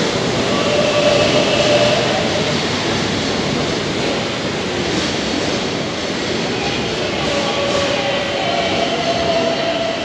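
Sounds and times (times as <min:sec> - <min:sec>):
train wheels rolling on rail: 0:00.0 - 0:10.0.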